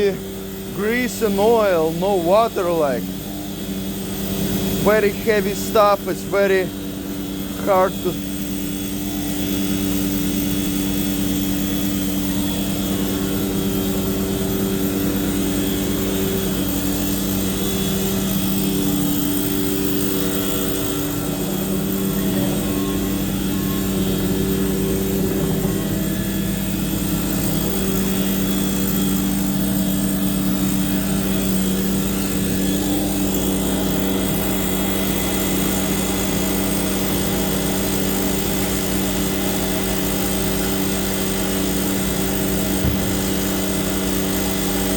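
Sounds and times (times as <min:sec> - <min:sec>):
vacuum truck pump and engine: 0:00.0 - 0:44.9.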